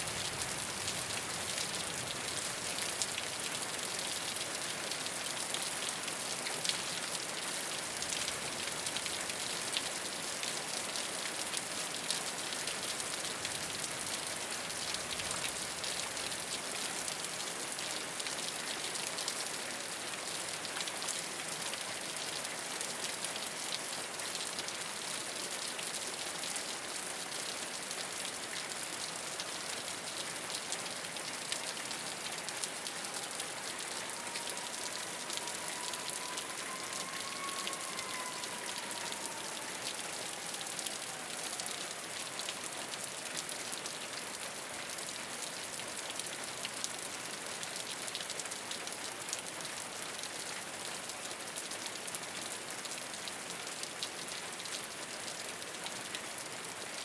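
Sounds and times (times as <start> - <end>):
rain on a rooftop: 0.0 - 57.0.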